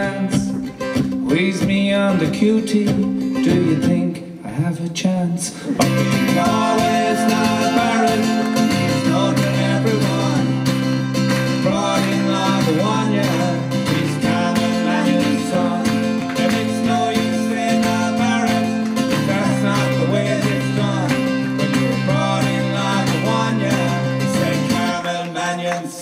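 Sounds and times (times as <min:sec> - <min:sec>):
acoustic guitar strumming: 0:00.0 - 0:04.4, 0:05.7 - 0:25.8.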